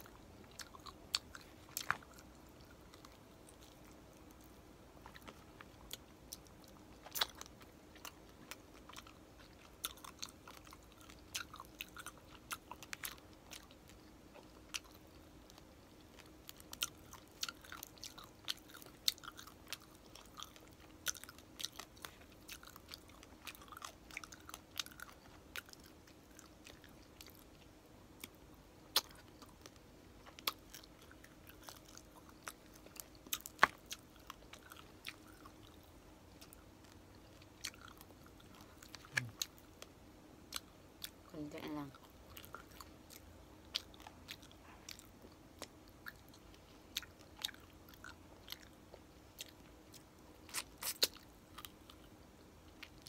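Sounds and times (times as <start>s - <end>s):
wet chewing with crunches: 0.0s - 53.0s.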